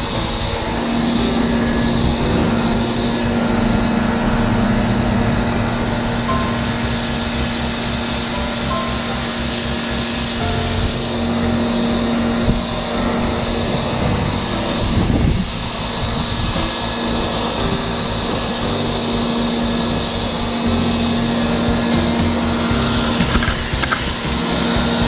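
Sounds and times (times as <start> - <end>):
background music: 0.0 - 25.0
pressure washer jet hissing: 0.0 - 25.0.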